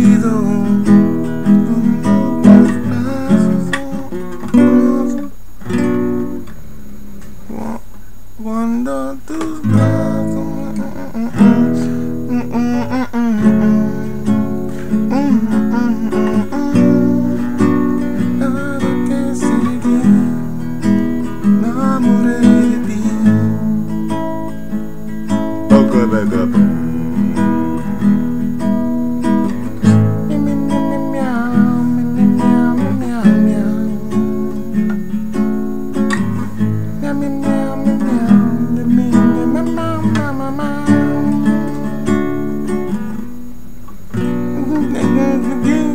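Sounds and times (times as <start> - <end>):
man humming: 0.0 - 5.3, 7.4 - 24.1, 25.5 - 28.2, 29.7 - 35.0, 36.9 - 42.3, 44.4 - 45.9
acoustic guitar strumming: 0.0 - 45.9.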